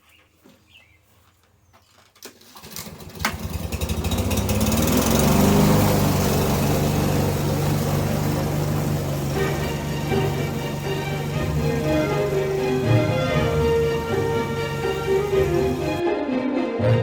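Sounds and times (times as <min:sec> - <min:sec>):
lawn mower engine starting: 0:02.2 - 0:16.0.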